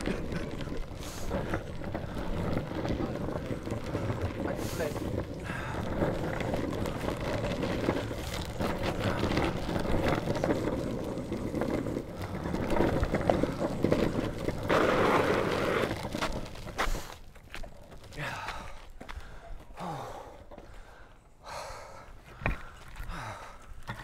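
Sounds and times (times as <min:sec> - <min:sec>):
longboard wheels rolling on dirt: 0:00.0 - 0:24.0.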